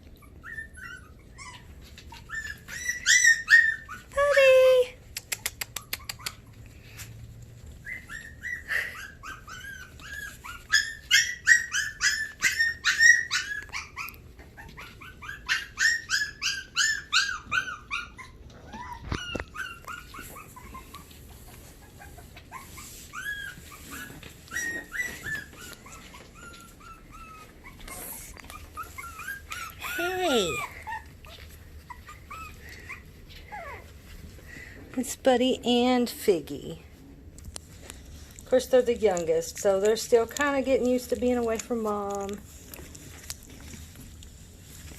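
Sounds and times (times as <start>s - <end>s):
puppies whimpering and crying: 0.0s - 35.2s, 36.8s - 44.9s.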